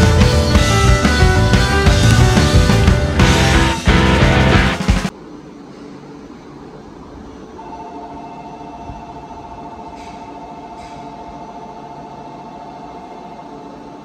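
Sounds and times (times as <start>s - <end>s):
platform hum: 0.0s - 14.0s.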